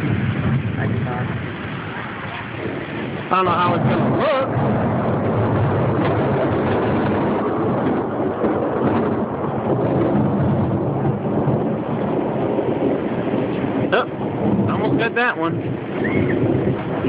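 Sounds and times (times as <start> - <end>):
rain: 0.0 - 17.0
rumble of thunder: 0.0 - 17.0.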